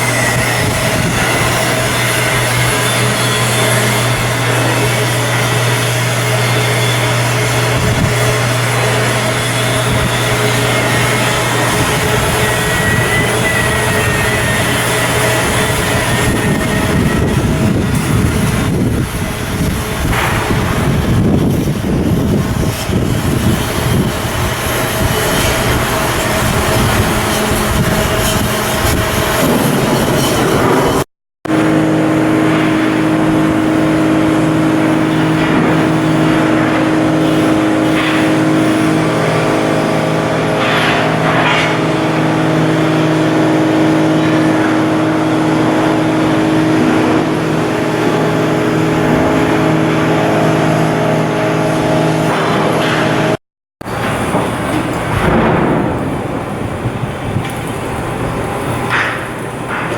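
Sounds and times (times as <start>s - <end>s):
heavy machinery rumbling: 0.0s - 59.9s.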